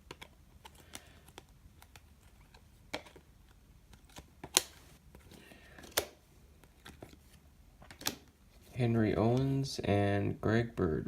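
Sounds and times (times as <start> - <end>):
trading cards being flipped: 0.0 - 9.6.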